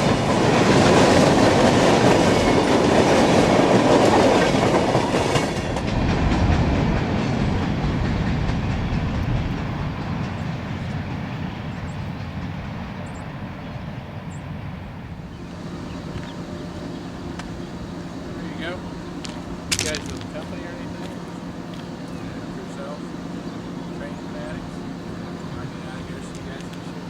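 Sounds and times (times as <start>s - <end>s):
freight train wheels clattering: 0.0s - 13.3s, 15.3s - 27.0s.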